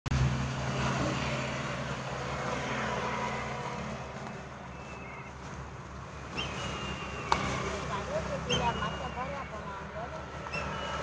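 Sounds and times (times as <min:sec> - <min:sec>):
vehicle engine humming: 0:00.1 - 0:11.0.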